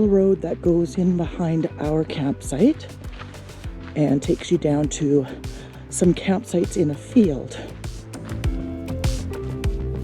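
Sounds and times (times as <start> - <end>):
background music with kick drum: 0.0 - 10.0.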